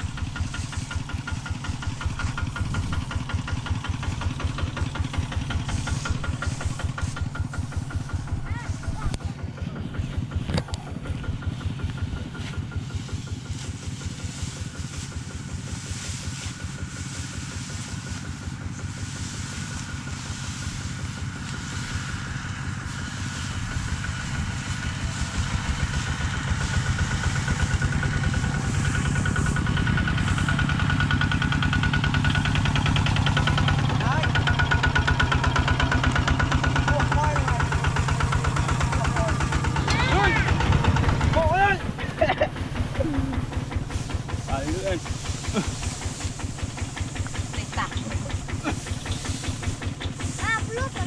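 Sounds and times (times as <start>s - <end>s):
walking tractor diesel engine: 0.0s - 51.0s.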